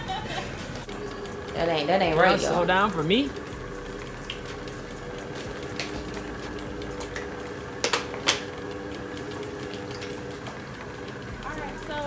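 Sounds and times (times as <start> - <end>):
low steady hum: 0.0 - 12.0
shopping cart wheels rattling: 0.0 - 12.0.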